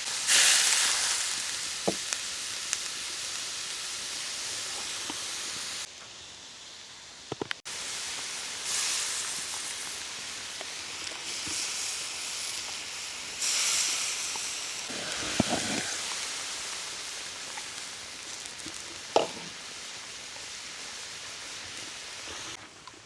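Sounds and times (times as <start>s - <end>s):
food sizzling in a pot: 0.0s - 22.6s.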